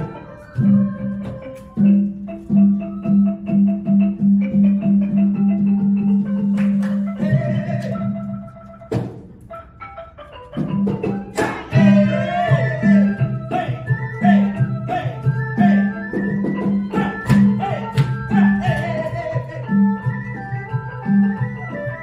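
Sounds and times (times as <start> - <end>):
folk dance music with xylophone: 0.0 - 22.0.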